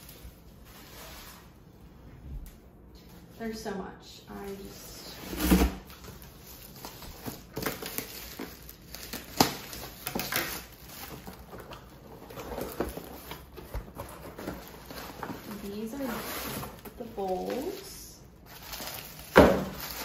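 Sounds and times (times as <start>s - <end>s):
bubble wrap crinkling: 0.0s - 1.6s, 4.4s - 20.0s.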